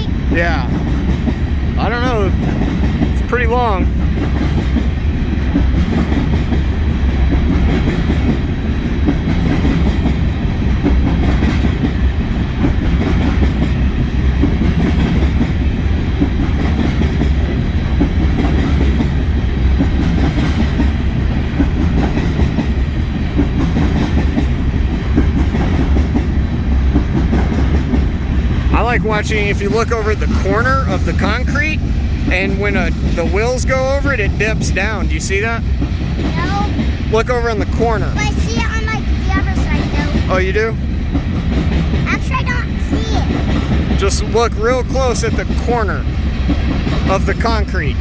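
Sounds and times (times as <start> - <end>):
freight train rumbling: 0.0 - 48.0
wheels clicking over rail joints: 0.7 - 47.2.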